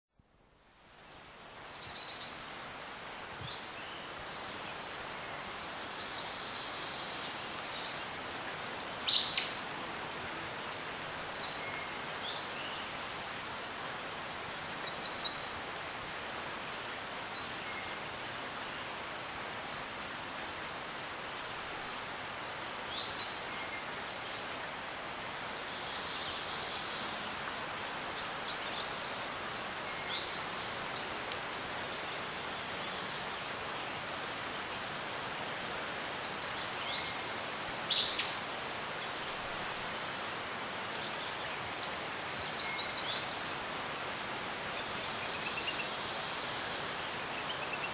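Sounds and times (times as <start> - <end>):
outdoor background hiss: 0.1 - 47.9
songbirds chirping: 0.2 - 47.9.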